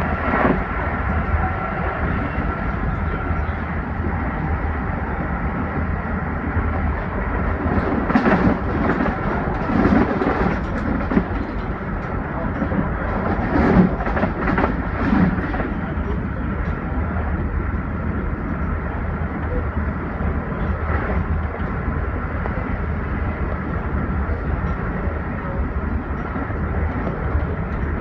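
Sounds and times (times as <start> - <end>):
train rumbling and rattling: 0.0 - 28.0.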